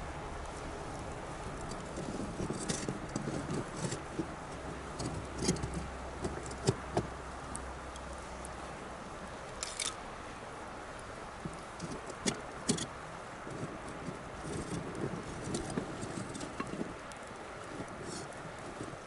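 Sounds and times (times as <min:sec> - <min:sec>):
bonfire crackling and popping: 0:00.0 - 0:19.0
hiss of burning: 0:00.0 - 0:19.0
low steady rumble: 0:00.0 - 0:19.0.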